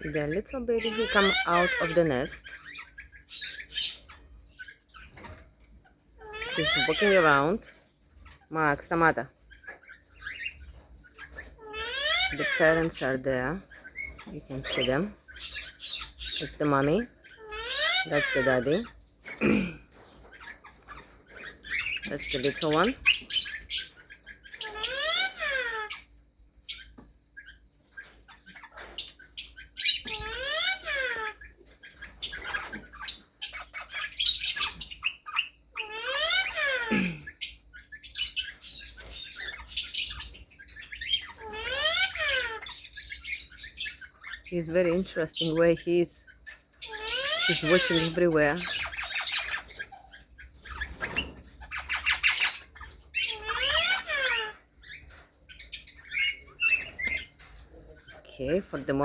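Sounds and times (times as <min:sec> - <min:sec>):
parrots squawking: 0:00.0 - 0:59.0.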